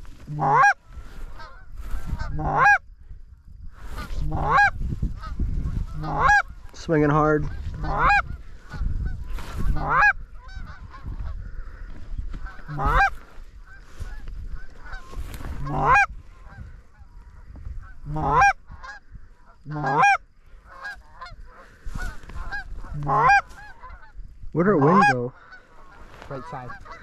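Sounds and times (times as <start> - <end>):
geese honking: 0.2 - 2.9, 3.8 - 27.0
faint honks from flock: 0.3 - 2.8, 4.0 - 11.7, 12.4 - 17.1, 17.8 - 19.0, 19.6 - 24.1, 24.7 - 27.0.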